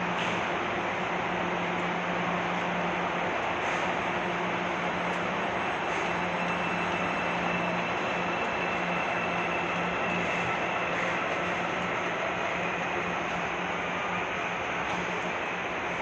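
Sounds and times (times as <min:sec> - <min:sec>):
train rail noise with hum: 0:00.0 - 0:16.0.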